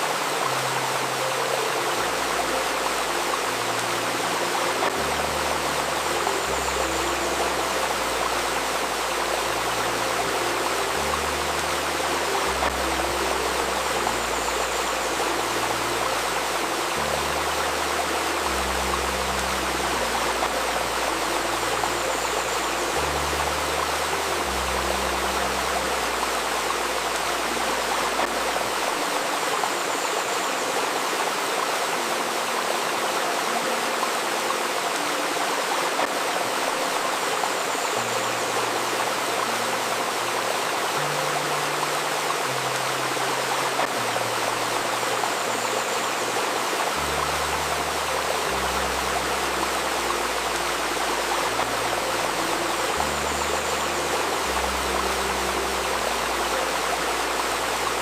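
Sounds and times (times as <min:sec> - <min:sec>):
ambient music low sustained notes: 0:00.0 - 0:58.0
babbling river: 0:00.0 - 0:58.0.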